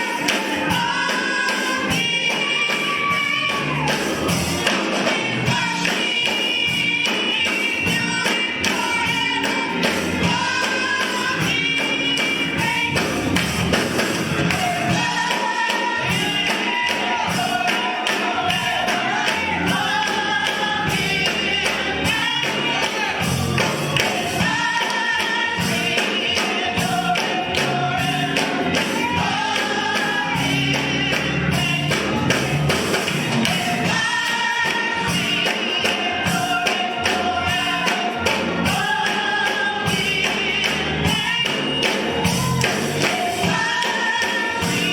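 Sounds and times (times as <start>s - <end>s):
band with steady beat: 0.0s - 44.9s
voices singing gospel: 0.0s - 44.9s.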